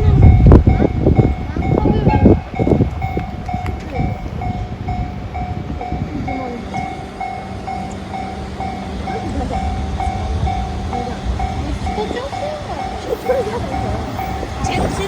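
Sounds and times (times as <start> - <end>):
freight train rumbling: 0.0 - 15.0
level-crossing alarm dinging: 0.0 - 15.0.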